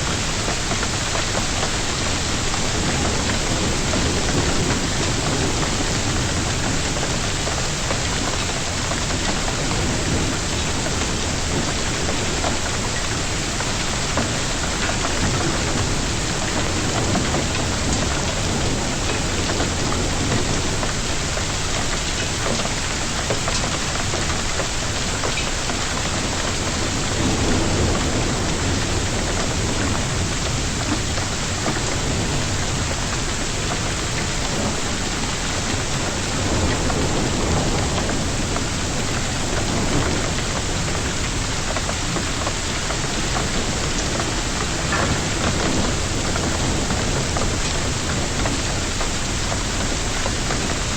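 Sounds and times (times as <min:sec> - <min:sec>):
hail and heavy rain pelting: 0:00.0 - 0:50.9.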